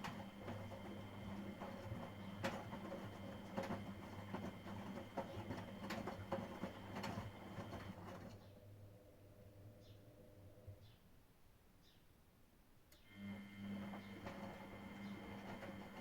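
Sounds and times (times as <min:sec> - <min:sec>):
washing machine motor hum: 0:00.0 - 0:10.8, 0:13.0 - 0:16.0.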